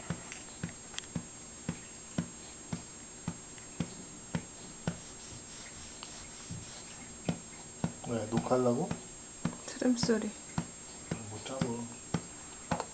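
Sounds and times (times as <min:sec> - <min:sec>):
hand patting a back: 0:00.0 - 0:12.9.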